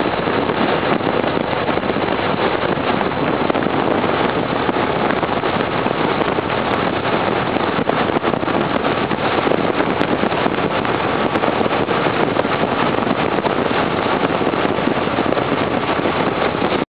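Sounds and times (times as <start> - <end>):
wind rushing: 0.0 - 16.8
wind buffeting microphone: 0.0 - 16.9.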